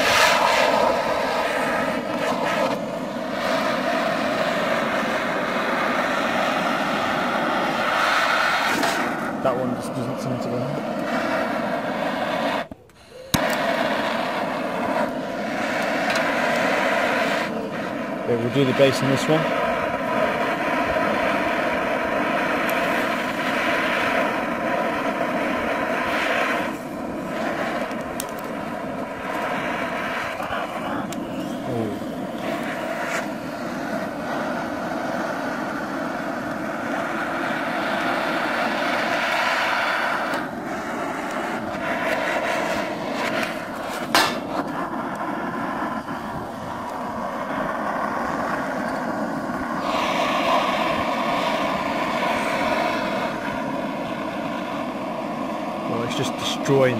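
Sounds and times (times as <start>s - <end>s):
blowtorch flame hissing: 0.0s - 56.9s.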